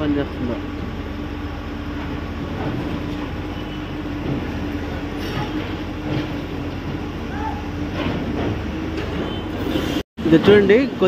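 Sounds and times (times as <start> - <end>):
excavator engine droning: 0.0 - 10.0.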